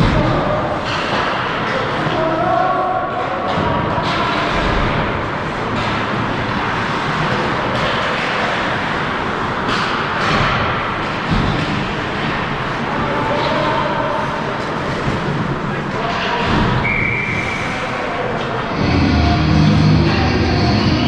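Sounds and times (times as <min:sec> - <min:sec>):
ice rink ambience: 0:00.0 - 0:21.0.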